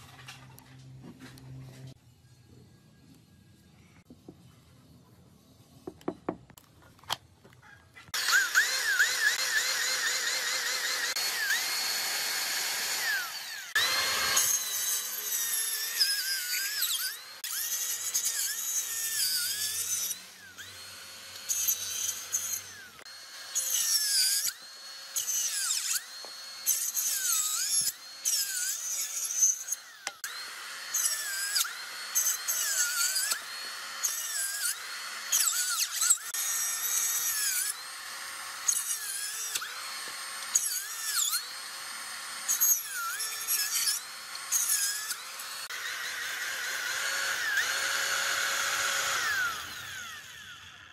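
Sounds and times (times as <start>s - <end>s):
circular saw cutting wood: 8.1s - 50.9s.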